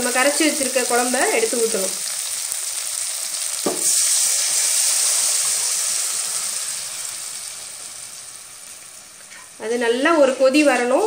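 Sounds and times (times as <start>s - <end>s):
liquid sizzling in hot oil: 0.0s - 11.0s.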